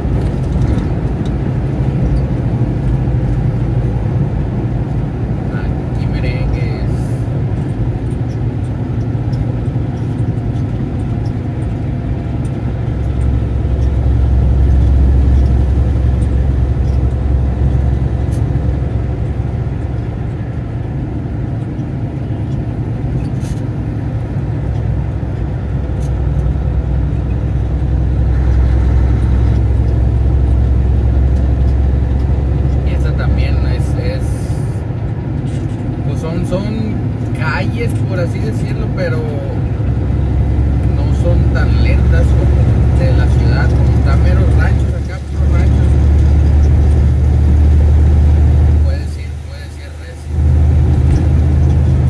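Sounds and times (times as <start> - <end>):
road noise: 0.0 - 52.0
truck engine drone: 0.0 - 52.0.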